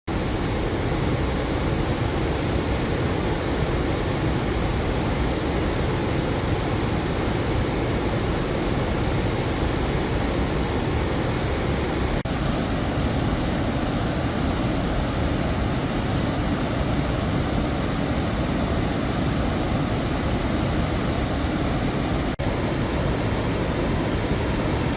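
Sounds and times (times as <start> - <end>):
floodwater rushing through spillway: 0.1 - 24.9.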